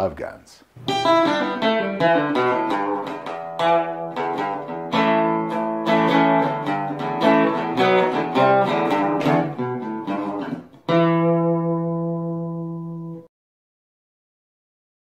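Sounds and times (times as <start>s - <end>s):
acoustic guitar picked notes: 0.8s - 13.3s
guitar chord ringing: 0.8s - 13.3s.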